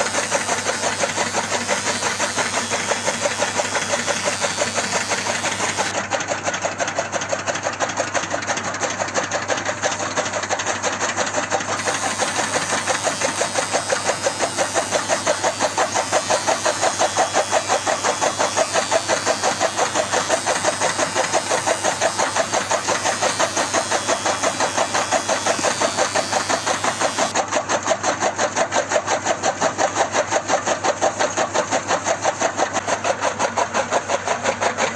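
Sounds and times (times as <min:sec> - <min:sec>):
small machine pulsing: 0:00.0 - 0:34.9.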